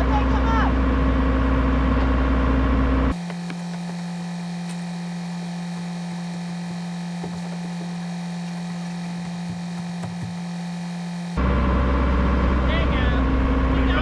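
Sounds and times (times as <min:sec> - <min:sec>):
steady low hum: 0:02.5 - 0:13.8.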